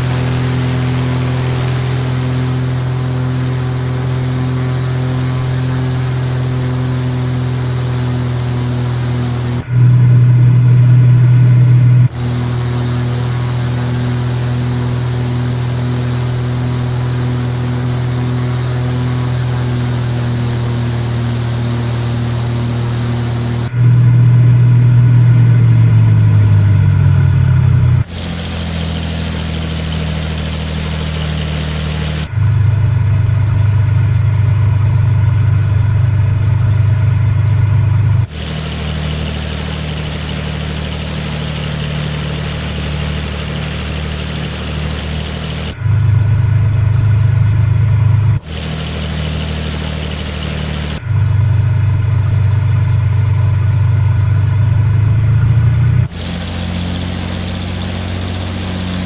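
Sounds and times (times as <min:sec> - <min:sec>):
propeller plane engine running: 0:00.0 - 0:59.0.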